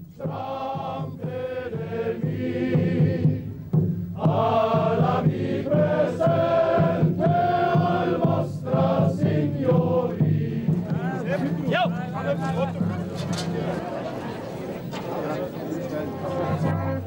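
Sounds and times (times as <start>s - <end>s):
men chanting in unison: 0.1s - 14.0s.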